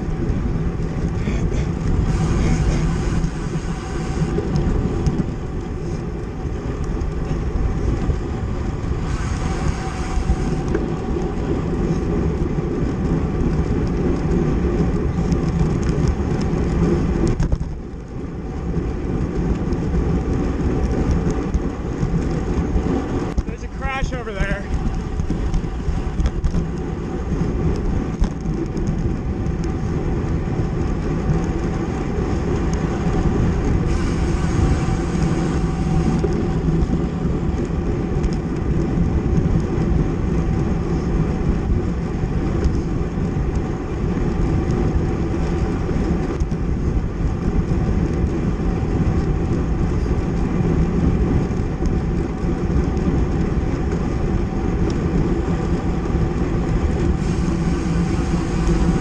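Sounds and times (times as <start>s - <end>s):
bicycle tyres on pavement: 0.0s - 59.0s
wind buffeting microphone: 0.0s - 59.0s.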